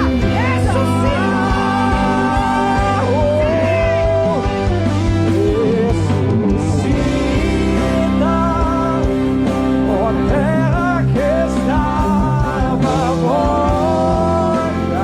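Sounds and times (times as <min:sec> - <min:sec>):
held chords: 0:00.0 - 0:15.0
slow worship music: 0:00.0 - 0:15.0.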